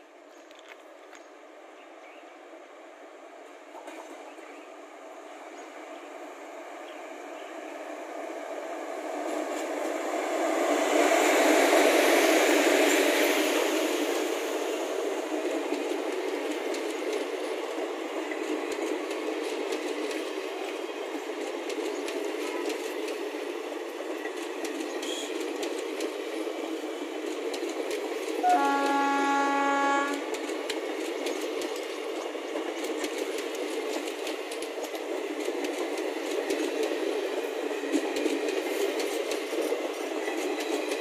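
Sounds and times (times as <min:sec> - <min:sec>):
train rushing past: 0:03.4 - 0:41.0.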